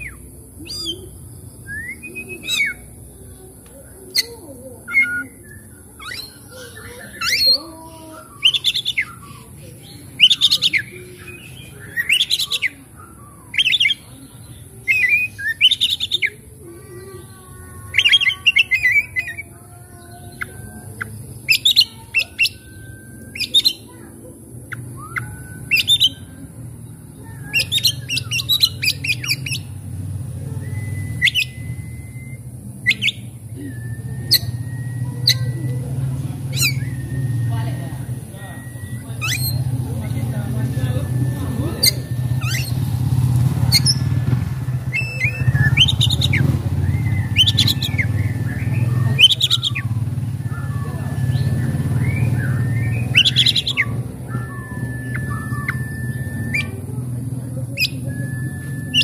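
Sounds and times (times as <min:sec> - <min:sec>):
bird singing chirps and whistles: 0:00.0 - 0:03.1, 0:04.1 - 0:16.5, 0:17.8 - 0:59.0.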